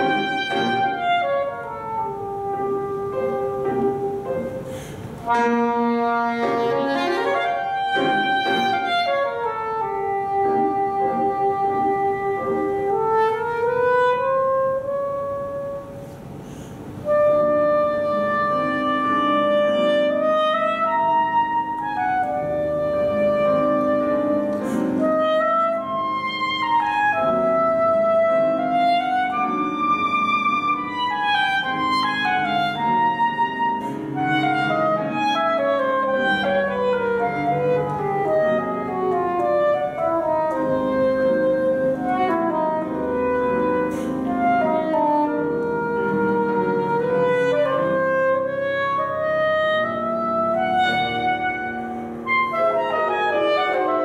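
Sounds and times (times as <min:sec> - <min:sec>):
soprano saxophone melody: 0:00.0 - 0:16.4, 0:17.0 - 0:54.0
piano accompaniment: 0:00.0 - 0:54.0.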